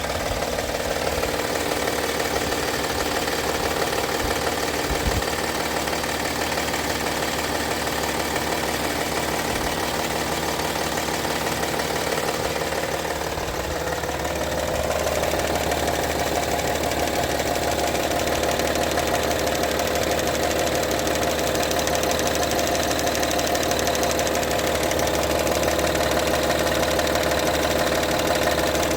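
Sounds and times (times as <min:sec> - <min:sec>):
car engine running with a knock: 0:00.0 - 0:28.9.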